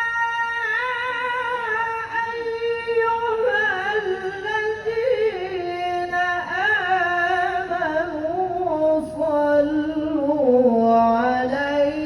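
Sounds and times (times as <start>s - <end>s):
person reciting melodically: 0.0s - 12.0s.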